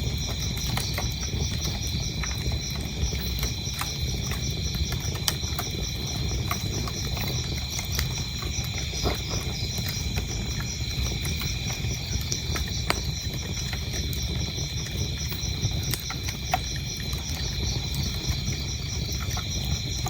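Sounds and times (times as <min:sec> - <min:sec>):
crickets chirping: 0:00.0 - 0:20.0
wood fire crackling and popping: 0:00.0 - 0:20.0.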